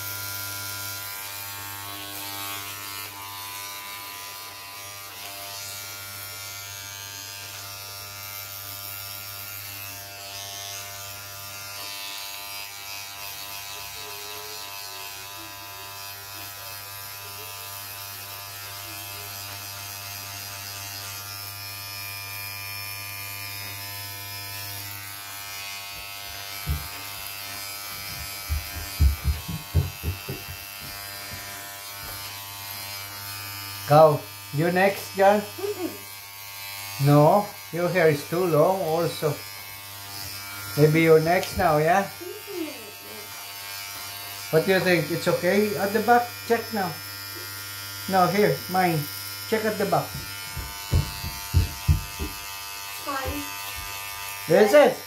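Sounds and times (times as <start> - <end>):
electric hair clipper buzzing: 0.0 - 55.0.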